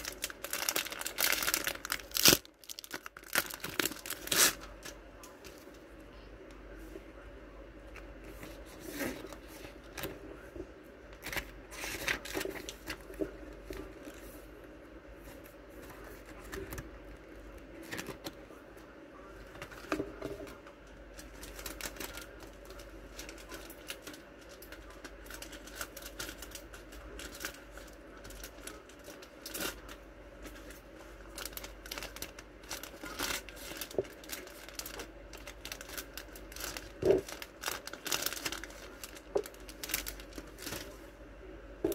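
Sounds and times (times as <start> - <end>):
plastic sleeves crinkling: 0.0 - 5.8, 11.1 - 14.4, 15.2 - 18.4, 19.3 - 41.1
faint steady hum: 0.0 - 41.9.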